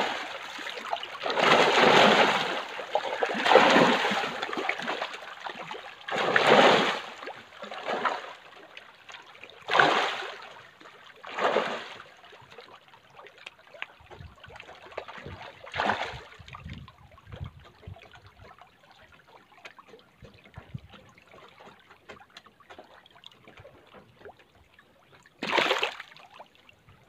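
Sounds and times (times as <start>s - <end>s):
water splashing: 0.0s - 26.7s
water trickling and lapping: 0.0s - 27.0s.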